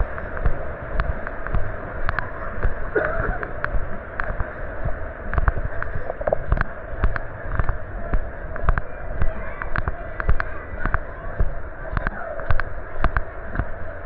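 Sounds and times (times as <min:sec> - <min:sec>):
footsteps: 0:00.0 - 0:13.8.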